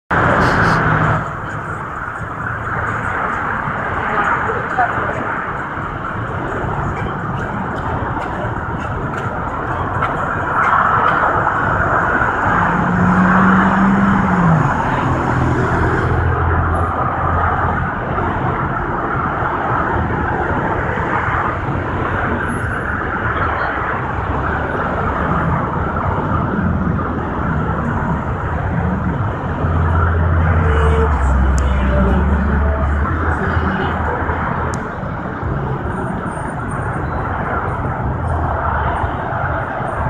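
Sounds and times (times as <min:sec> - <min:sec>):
freeway traffic rush: 0:00.1 - 0:40.0.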